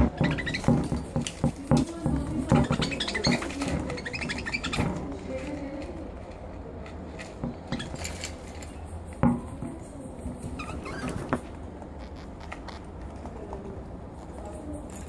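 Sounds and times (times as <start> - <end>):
bird pecking and scuffling: 0.0 - 15.0.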